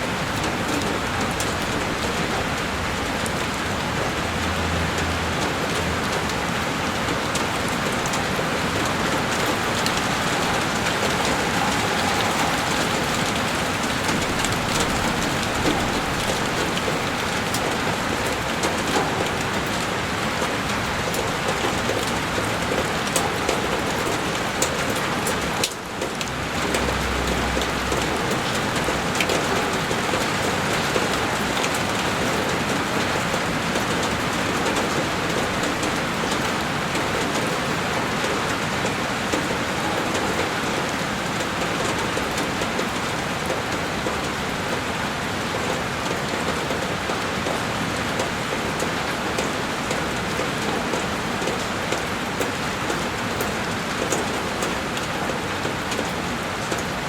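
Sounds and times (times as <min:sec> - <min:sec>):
heavy rain on window: 0:00.0 - 0:57.0.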